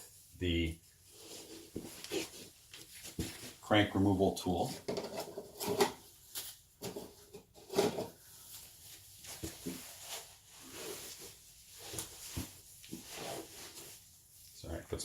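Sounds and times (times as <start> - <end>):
rustling: 0.0 - 3.7, 5.1 - 14.8.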